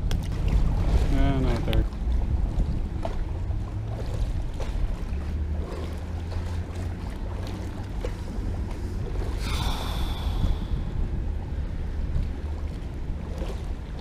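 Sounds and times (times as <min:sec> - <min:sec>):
steady low rumble: 0:00.0 - 0:14.0
water lapping at boat hull: 0:00.0 - 0:14.0
wind buffeting microphone: 0:00.0 - 0:14.0.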